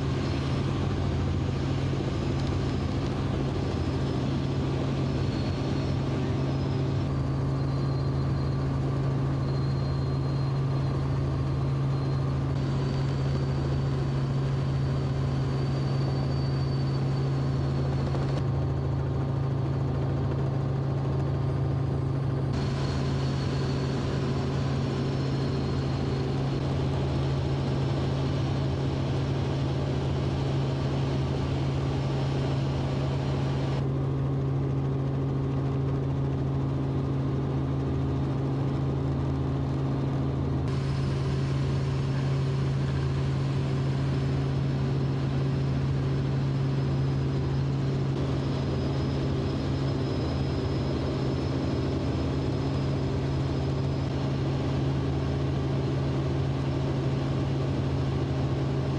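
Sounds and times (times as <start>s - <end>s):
helicopter engine and rotors: 0.0s - 58.9s.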